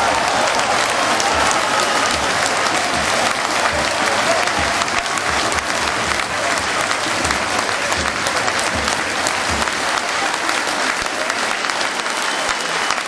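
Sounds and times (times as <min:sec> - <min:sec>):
crowd clapping and applauding: 0:00.0 - 0:13.0.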